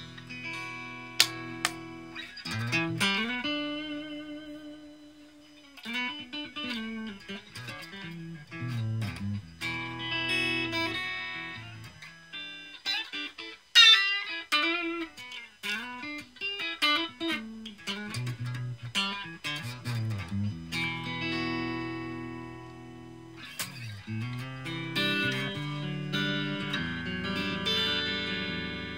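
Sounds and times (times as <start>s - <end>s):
clean electric guitar playing: 0.0s - 28.9s.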